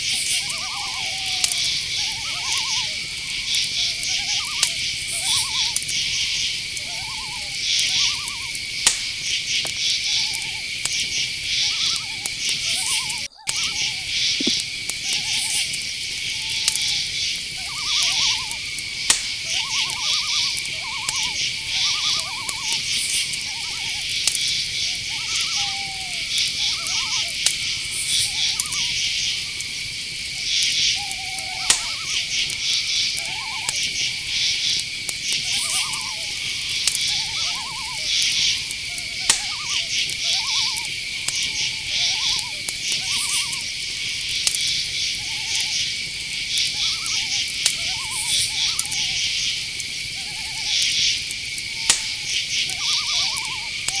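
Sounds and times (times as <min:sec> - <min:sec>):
crickets chirring: 0:00.0 - 0:54.0
owl calls: 0:00.0 - 0:54.0.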